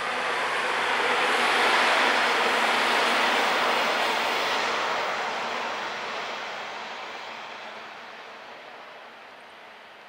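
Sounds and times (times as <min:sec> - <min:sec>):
diesel train rolling past: 0:00.0 - 0:10.0.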